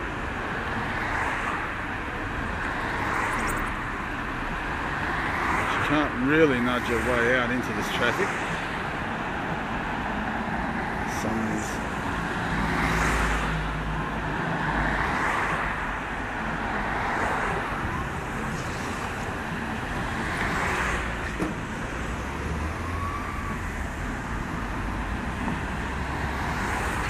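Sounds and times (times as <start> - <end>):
cars passing close by: 0.0 - 27.0.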